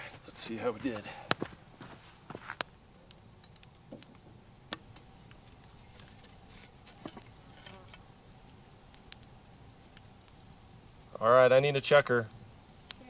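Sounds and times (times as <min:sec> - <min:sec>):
stick clicking and scraping coals: 0:00.0 - 0:13.0.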